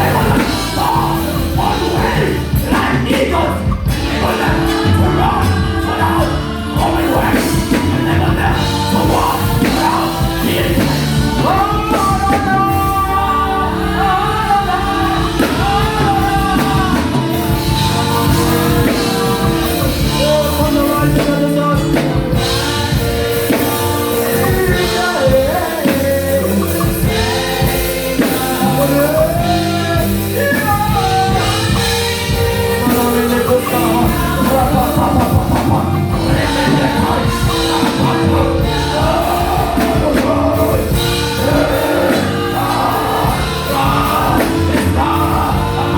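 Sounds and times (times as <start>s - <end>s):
voices singing: 0.0s - 45.9s
worship band music: 0.0s - 45.9s.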